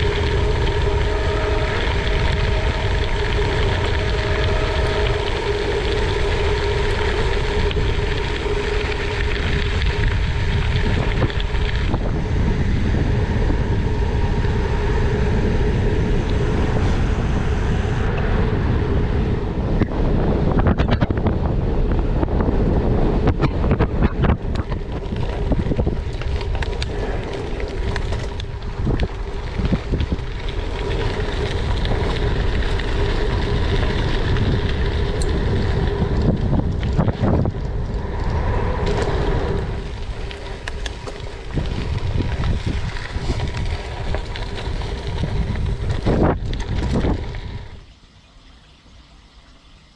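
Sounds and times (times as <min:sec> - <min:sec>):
wind buffeting microphone: 0:00.0 - 0:47.8
steady hum: 0:00.0 - 0:49.9.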